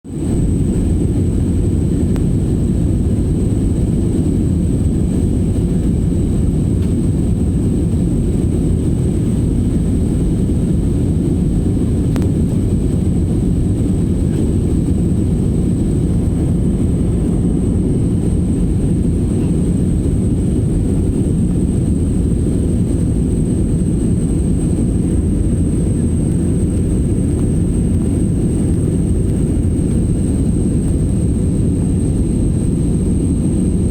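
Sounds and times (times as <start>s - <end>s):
airliner cabin jet engine drone: 0.1s - 33.9s.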